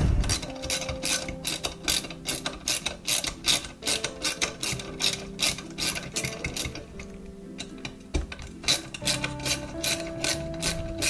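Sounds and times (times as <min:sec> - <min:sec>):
ratchet wrench clicking: 0:00.2 - 0:11.0.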